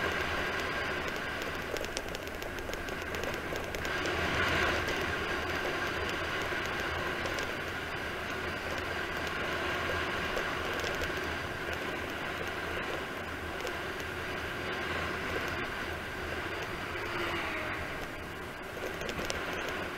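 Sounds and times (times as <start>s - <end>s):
wind rushing over microphone: 0.0s - 19.9s.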